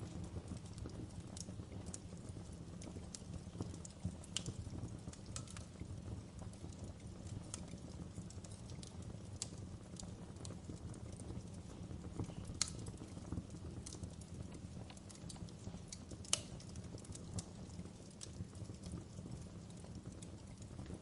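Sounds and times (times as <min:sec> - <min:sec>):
low rumble of fire: 0:00.0 - 0:21.0
wood fire crackling and popping: 0:00.0 - 0:21.0.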